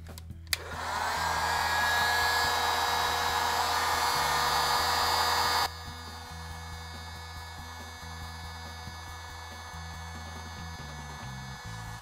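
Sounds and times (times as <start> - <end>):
heat gun blowing air: 0.6 - 12.0.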